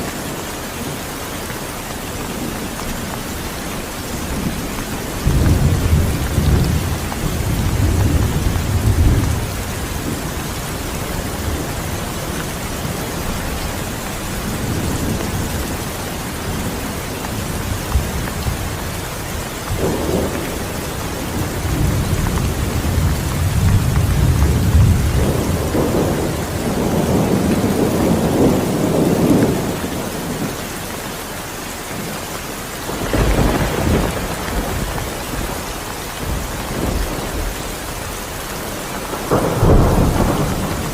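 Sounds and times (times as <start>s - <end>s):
heavy rain: 0.0s - 40.9s
low thunder rolling: 3.0s - 30.6s, 32.9s - 40.9s.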